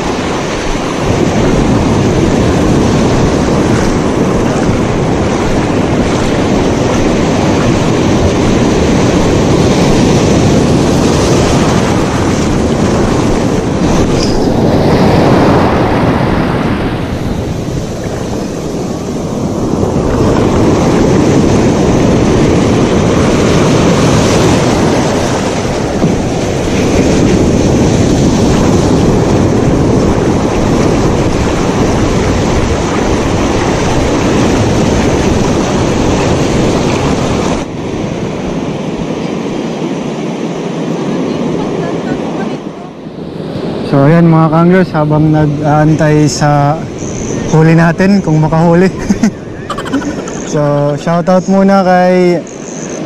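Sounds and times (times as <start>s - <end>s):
ocean surf breaking on shore: 0.0s - 53.0s
wind rumbling on microphone: 0.0s - 53.0s.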